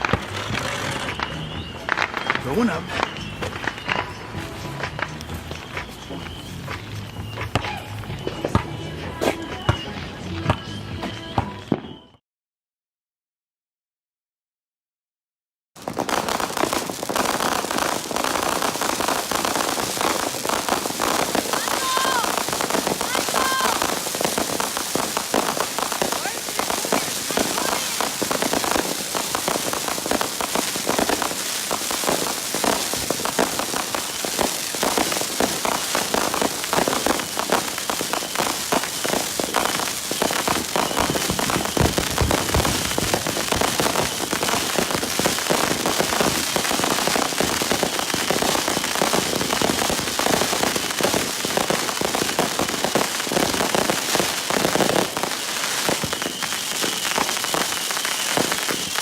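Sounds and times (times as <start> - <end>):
fireworks crackling: 0.0 - 12.1, 15.8 - 59.0.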